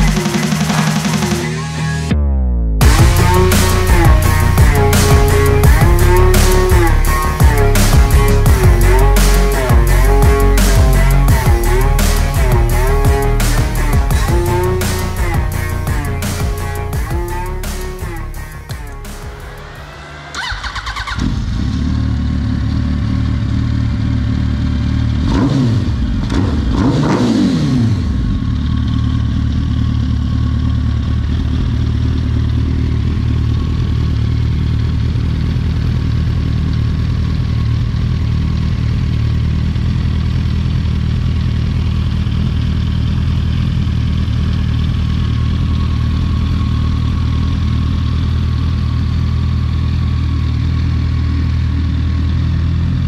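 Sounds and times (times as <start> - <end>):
motorcycle engine idling and revving: 0.0 - 53.0.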